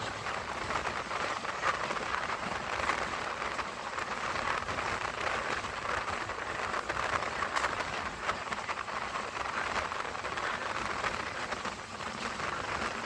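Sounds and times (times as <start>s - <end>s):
faint clicks: 0.0s - 13.0s
train wheels rattling on rails: 0.0s - 13.0s.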